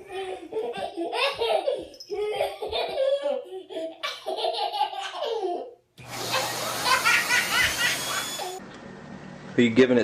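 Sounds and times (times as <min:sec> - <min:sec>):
small child laughing: 0:00.0 - 0:08.6.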